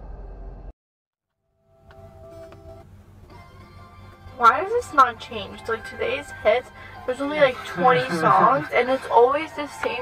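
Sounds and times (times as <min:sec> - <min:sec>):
engine and road rumble: 0:01.6 - 0:10.0
music from car radio: 0:01.8 - 0:10.0.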